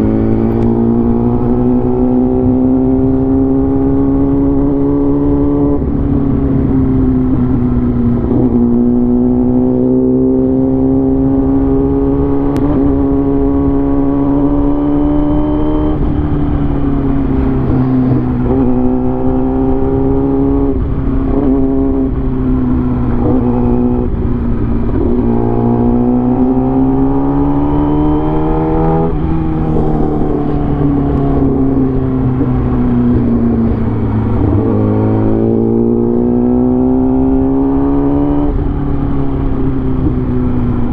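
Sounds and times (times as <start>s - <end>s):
road and wind rumble: 0.0s - 40.9s
vehicle engine accelerating: 0.0s - 40.9s.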